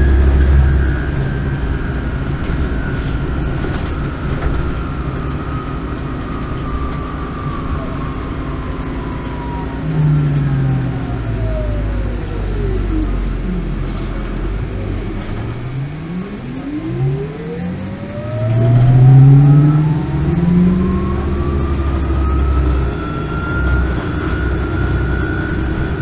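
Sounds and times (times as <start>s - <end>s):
bus rolling rumble: 0.0s - 26.0s
deep engine drone: 0.0s - 26.0s
electric drive whine: 0.0s - 26.0s.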